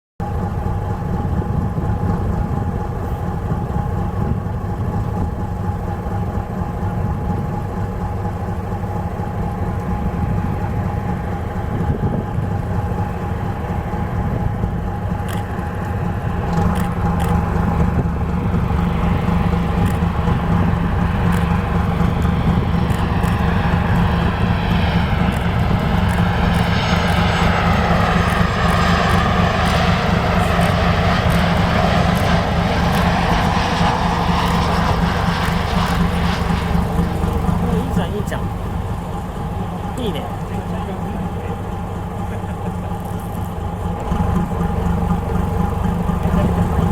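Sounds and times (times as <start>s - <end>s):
boat engine rumbling: 0.2s - 46.9s
jet airliner engine roar: 0.2s - 46.9s.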